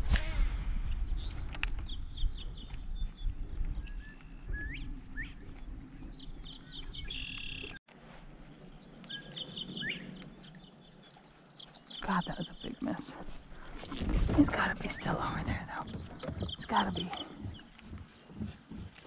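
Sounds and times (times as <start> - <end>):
songbirds chirping: 1.0 - 7.8, 8.4 - 19.0.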